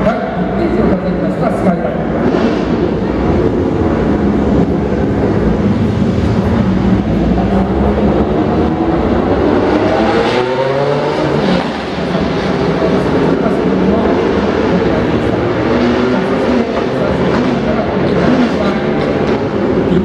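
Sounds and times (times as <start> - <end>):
engine revving: 0.0 - 20.0
racing car engines running past: 0.0 - 20.0.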